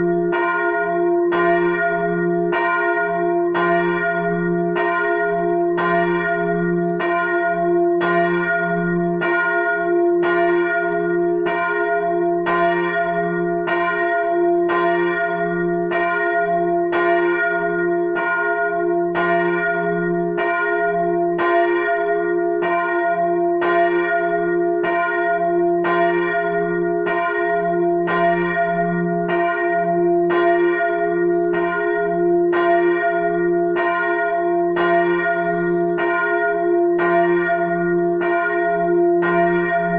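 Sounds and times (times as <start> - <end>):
large church bell ringing: 0.0 - 39.9.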